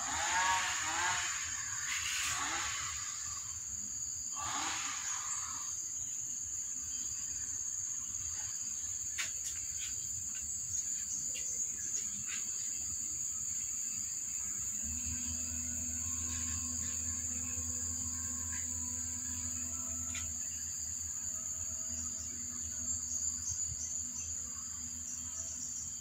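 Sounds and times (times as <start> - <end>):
insect trill: 0.0 - 26.0.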